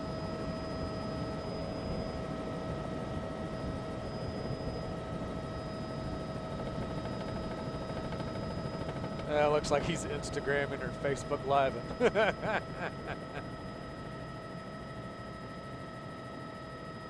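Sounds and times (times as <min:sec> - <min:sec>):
helicopter engine and rotor noise: 0:00.0 - 0:17.0
steady high whine: 0:00.0 - 0:17.0.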